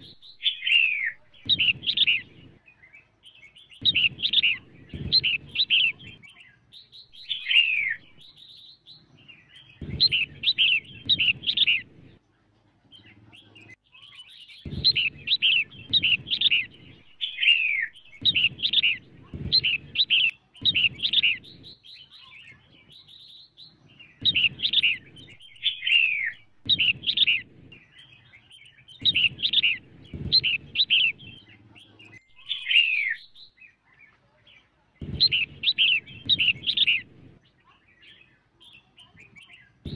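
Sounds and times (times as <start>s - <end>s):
bulbul chirps and whistles: 0.0s - 2.6s, 3.3s - 12.2s, 13.6s - 33.8s, 35.0s - 39.9s.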